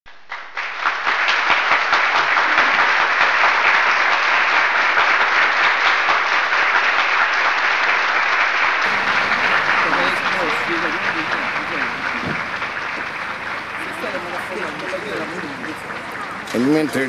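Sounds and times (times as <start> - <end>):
applause: 0.1 - 17.0.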